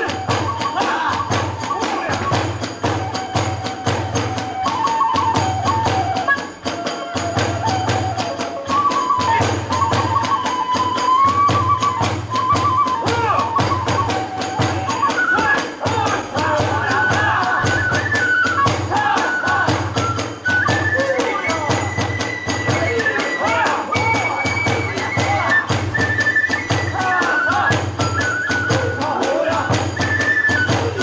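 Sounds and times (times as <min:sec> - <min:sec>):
bamboo flute melody: 0:00.0 - 0:31.0
hand cymbals: 0:00.0 - 0:31.0
taiko drums: 0:00.0 - 0:31.0.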